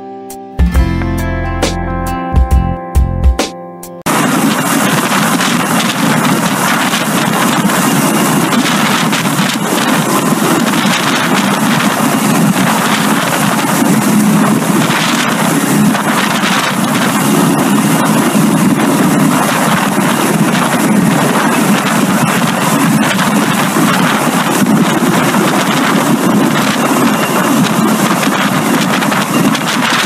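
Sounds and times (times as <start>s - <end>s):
helicopter rotor hovering: 4.1s - 30.0s
high turbine whine: 4.1s - 30.0s
wind buffeting microphone: 4.1s - 30.0s.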